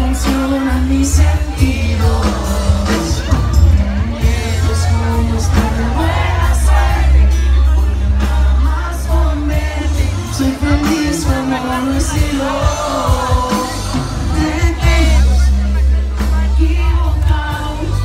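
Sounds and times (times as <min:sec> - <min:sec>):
live band with male singer: 0:00.0 - 0:18.0.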